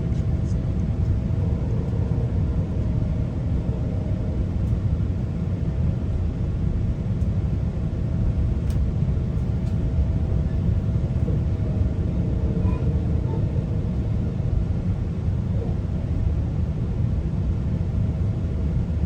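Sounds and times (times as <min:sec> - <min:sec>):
faint steady hum: 0:00.0 - 0:19.0
train coach rumbling on track: 0:00.0 - 0:19.0.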